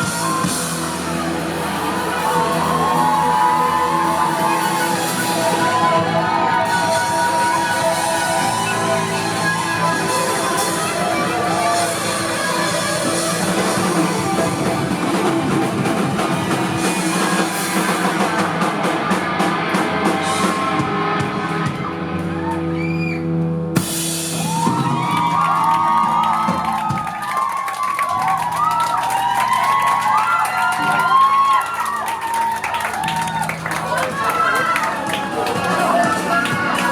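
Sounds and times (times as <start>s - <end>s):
crowd cheering and shouting: 0.0s - 36.9s
drum kit: 0.0s - 36.9s
electric guitars: 0.0s - 36.9s
live rock band playing: 0.0s - 36.9s.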